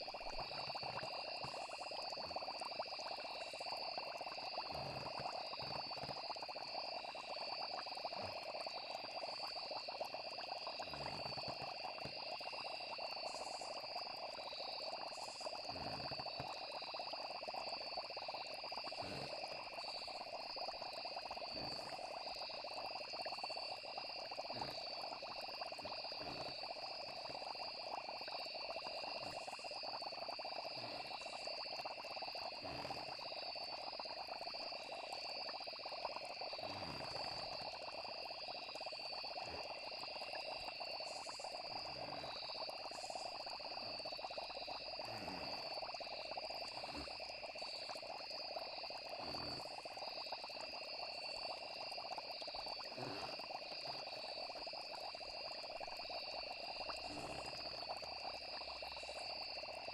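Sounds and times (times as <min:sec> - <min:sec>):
frog chorus: 0:00.0 - 0:59.9
insect trilling: 0:00.0 - 0:59.9.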